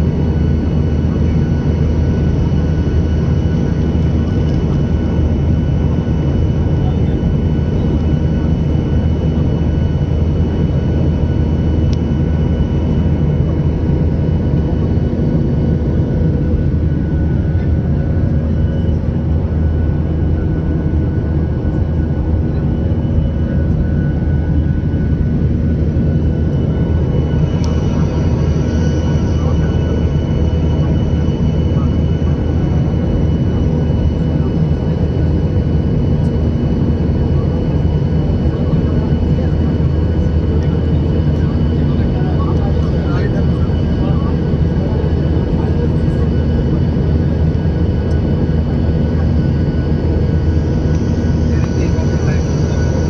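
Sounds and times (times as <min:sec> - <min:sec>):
jet engines droning: 0:00.0 - 0:53.0.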